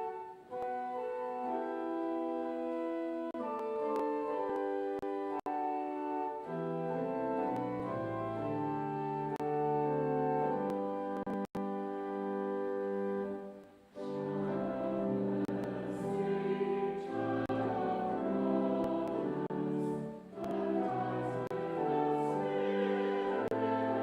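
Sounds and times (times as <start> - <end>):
church organ chords: 0.0 - 24.0.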